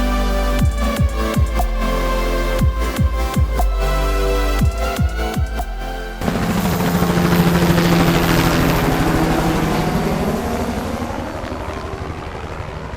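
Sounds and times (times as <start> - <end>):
drone propellers humming: 0.0 - 12.9.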